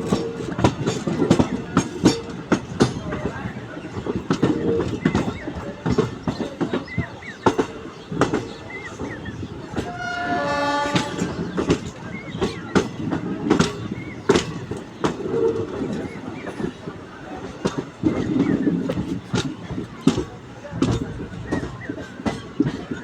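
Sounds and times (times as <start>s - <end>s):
train rumble: 0.0s - 23.0s
train wheels clattering over rail joints: 0.0s - 23.0s.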